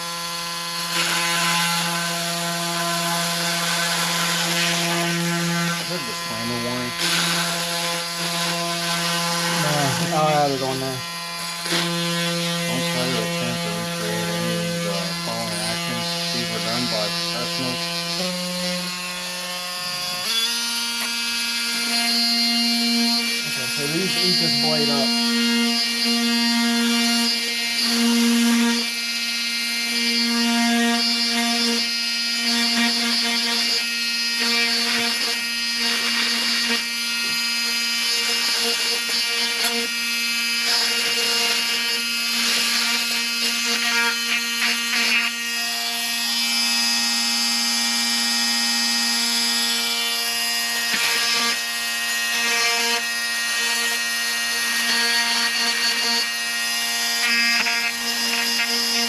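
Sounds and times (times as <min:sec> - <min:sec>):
power tool cutting pad: 0:00.0 - 0:59.0.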